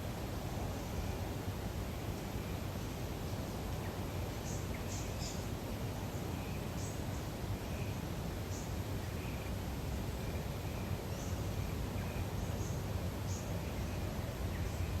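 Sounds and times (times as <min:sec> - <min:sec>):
low hiss and rumble: 0:00.0 - 0:15.0.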